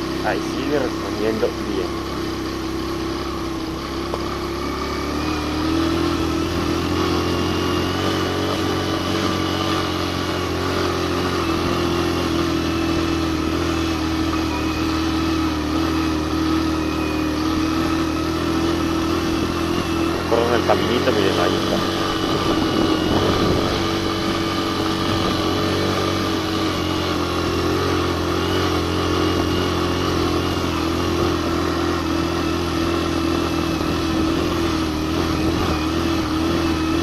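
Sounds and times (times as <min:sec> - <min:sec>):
motorcycle engine pulling under load: 0:00.0 - 0:37.0.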